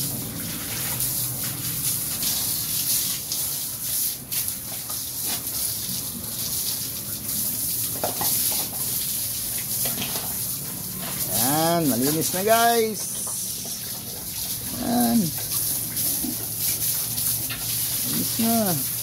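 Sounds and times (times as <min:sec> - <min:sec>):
hose water spraying: 0:00.0 - 0:19.0.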